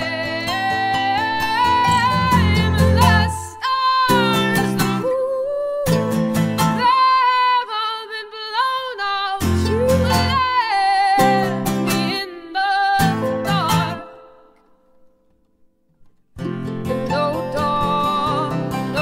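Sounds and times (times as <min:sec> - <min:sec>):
strummed acoustic guitar: 0:00.0 - 0:05.2, 0:05.8 - 0:07.8, 0:09.3 - 0:15.4, 0:16.0 - 0:19.0
person singing: 0:00.0 - 0:14.6, 0:16.4 - 0:19.0.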